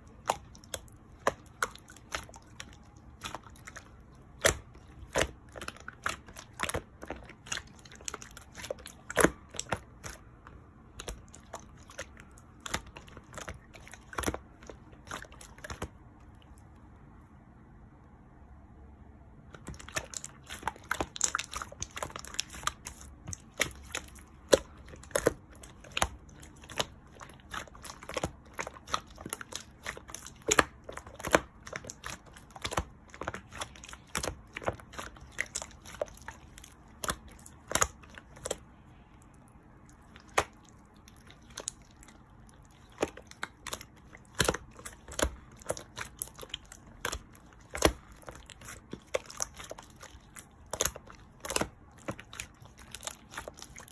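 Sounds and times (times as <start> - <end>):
slime clicking and popping: 0.1 - 15.9, 19.5 - 38.6, 40.0 - 53.9.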